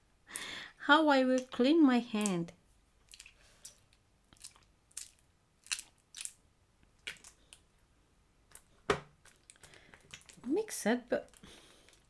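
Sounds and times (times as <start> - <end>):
slime popping and squelching: 1.3 - 7.7, 8.5 - 12.0.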